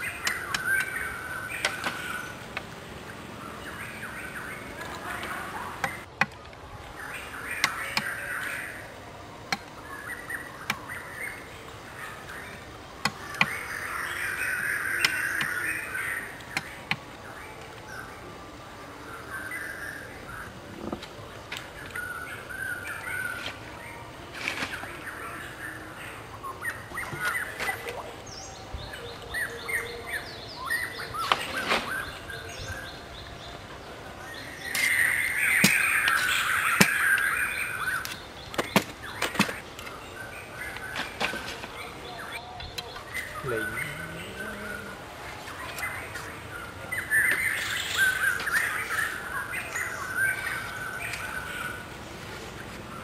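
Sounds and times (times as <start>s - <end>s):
birds calling: 0.0s - 53.0s.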